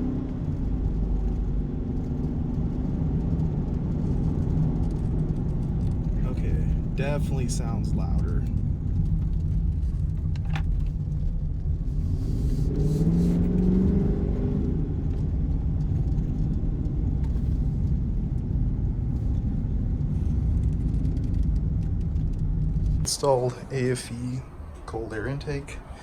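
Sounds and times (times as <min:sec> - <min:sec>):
car engine rumbling and revving: 0:00.0 - 0:26.0.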